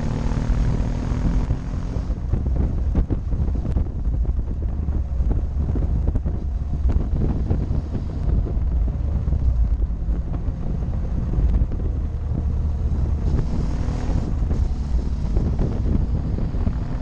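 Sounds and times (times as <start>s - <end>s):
motorcycle engine droning: 0.0s - 17.0s
wind buffeting microphone: 0.0s - 17.0s.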